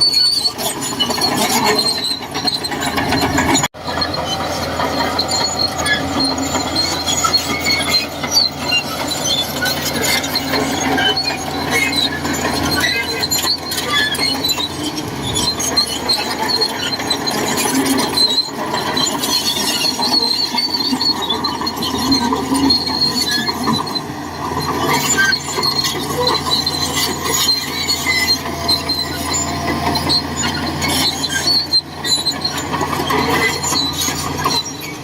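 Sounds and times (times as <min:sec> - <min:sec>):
bulldozer diesel engine running: 0:00.0 - 0:35.0
steel tracks squeaking and clinking: 0:00.0 - 0:35.0.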